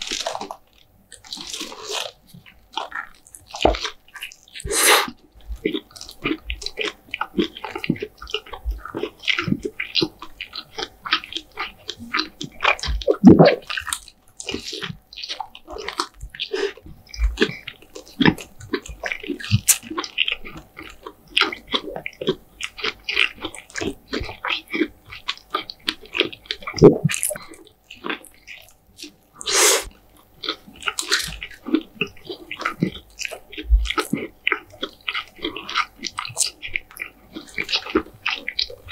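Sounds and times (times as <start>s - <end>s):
person chewing and biting: 0.0s - 38.9s.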